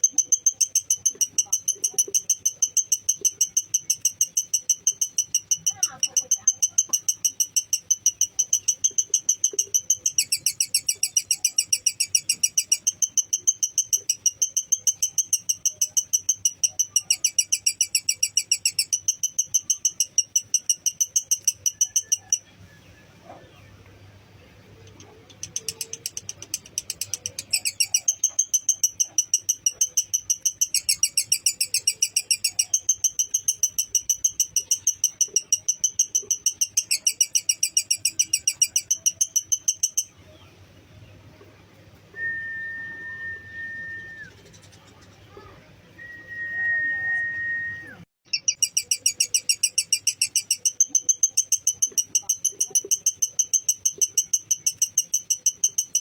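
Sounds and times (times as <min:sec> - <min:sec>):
lovebird chattering: 0:00.0 - 0:22.6, 0:24.6 - 0:40.4, 0:44.0 - 0:45.6, 0:48.2 - 0:56.0.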